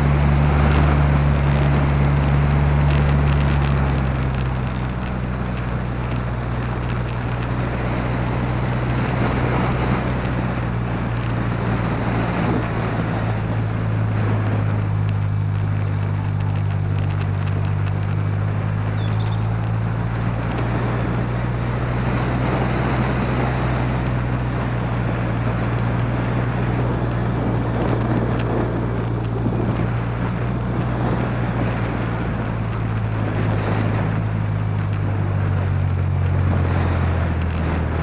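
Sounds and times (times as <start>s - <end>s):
car engine running: 0.0s - 38.0s
tyre noise: 0.0s - 38.0s
wind buffeting microphone: 0.0s - 38.0s.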